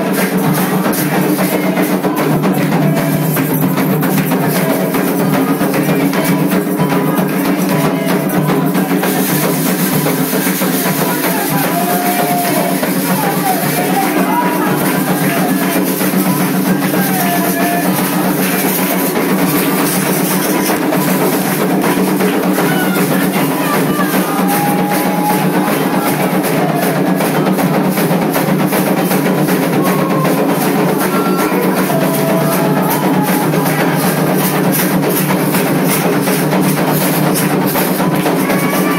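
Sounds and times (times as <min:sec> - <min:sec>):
hand drums playing rhythm: 0:00.0 - 0:38.9
voices singing: 0:00.0 - 0:38.9.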